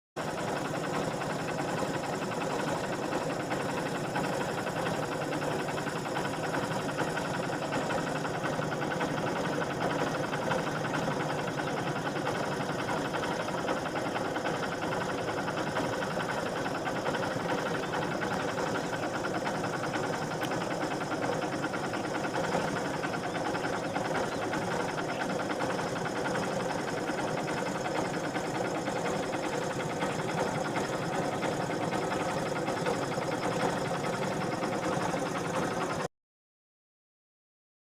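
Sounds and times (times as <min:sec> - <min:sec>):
vehicle engine idling: 0:00.2 - 0:36.1.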